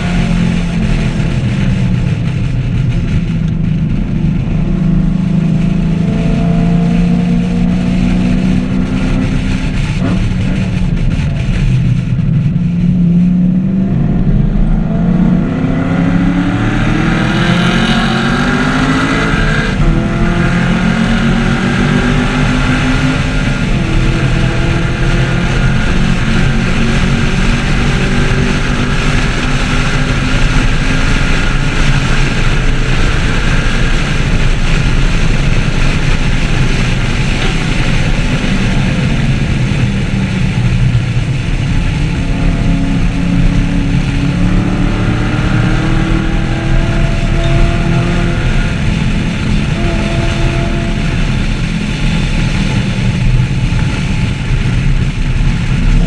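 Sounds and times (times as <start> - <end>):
car engine revving hard: 0.0 - 56.0
road and wind noise: 0.0 - 56.0.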